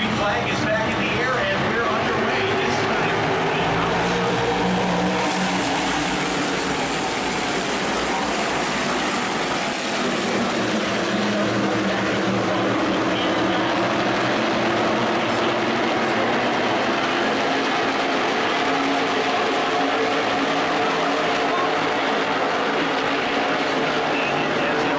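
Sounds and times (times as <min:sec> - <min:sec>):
race car engines droning: 0:00.0 - 0:24.9.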